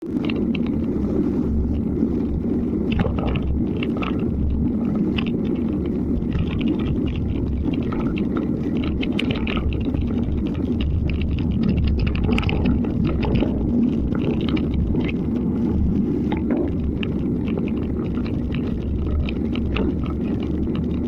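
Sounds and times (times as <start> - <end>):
light crackles: 0.0 - 21.0
wind buffeting microphone: 0.0 - 21.0.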